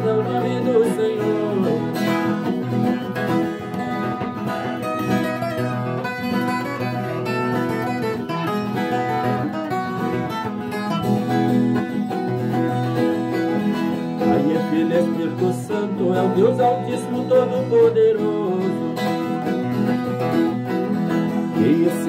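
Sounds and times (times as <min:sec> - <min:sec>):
plucked folk guitar: 0:00.0 - 0:22.0.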